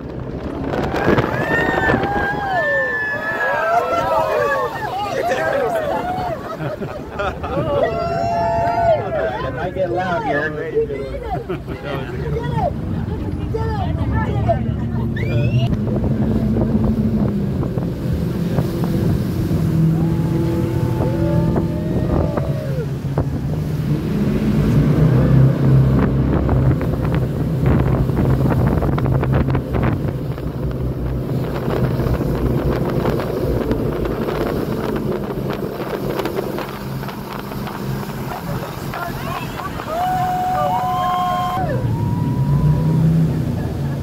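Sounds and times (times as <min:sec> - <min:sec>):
boat engine running at speed: 0:00.0 - 0:44.0
water rushing past hull: 0:00.0 - 0:44.0
wind buffeting microphone: 0:00.0 - 0:44.0.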